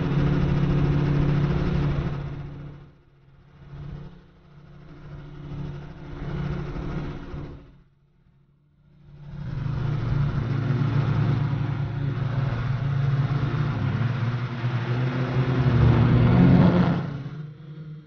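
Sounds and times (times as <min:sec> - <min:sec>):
model aircraft propeller drone: 0:00.0 - 0:18.0.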